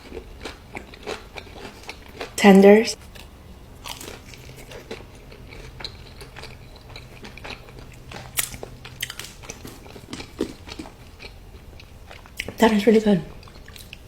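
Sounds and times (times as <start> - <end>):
crunchy chewing bites: 0.0 - 2.4, 3.0 - 12.6, 13.4 - 14.0.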